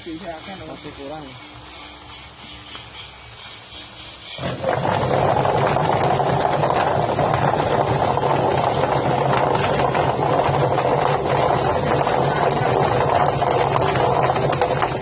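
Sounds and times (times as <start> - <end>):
plucking machine mechanical hum: 0.0 - 15.0.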